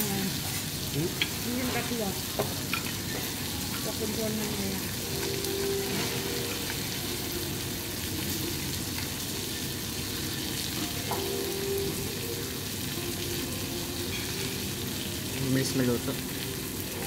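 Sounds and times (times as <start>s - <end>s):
steaks sizzling on a griddle: 0.0s - 17.0s.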